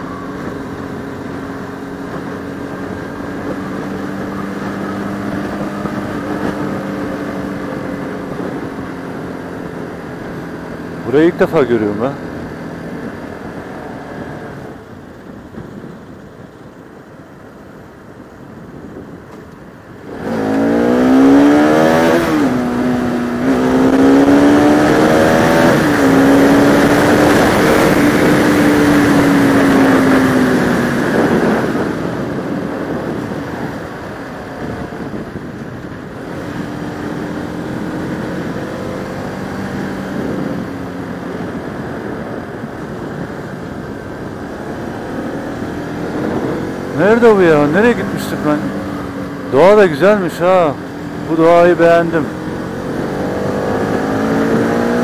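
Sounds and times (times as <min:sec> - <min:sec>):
motorcycle engine accelerating: 0:00.0 - 0:16.3, 0:18.8 - 0:55.0.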